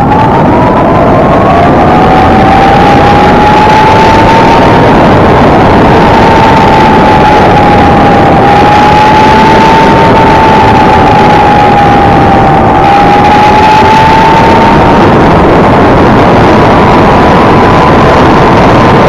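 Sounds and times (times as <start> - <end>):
vehicle motor whine: 0.0 - 19.0
wind and road rush: 0.0 - 19.0.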